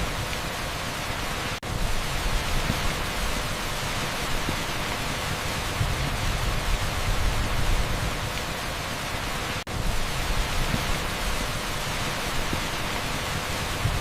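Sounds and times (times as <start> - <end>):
heavy rain on asphalt: 0.0 - 14.0.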